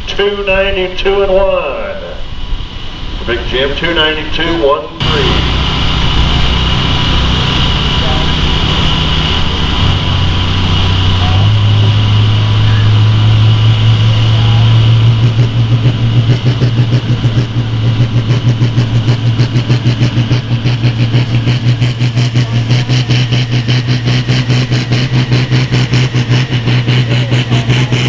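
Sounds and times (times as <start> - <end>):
tractor engine running hard: 2.2 - 28.0.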